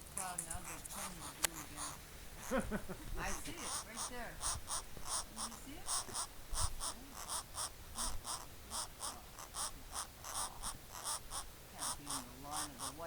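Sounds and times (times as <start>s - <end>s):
nestlings begging calls: 0.0s - 13.0s.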